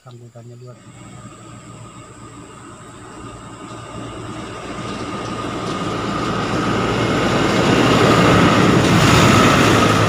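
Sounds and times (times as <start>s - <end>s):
high whine: 0.0s - 10.0s
truck rumble passing: 0.6s - 10.0s.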